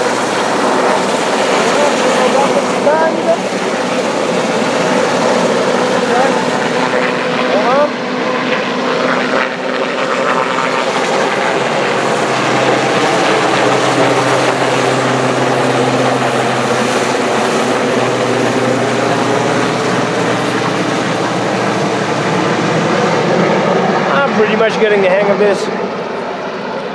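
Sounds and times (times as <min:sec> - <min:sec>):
helicopter rotor and engine: 0:00.0 - 0:26.9.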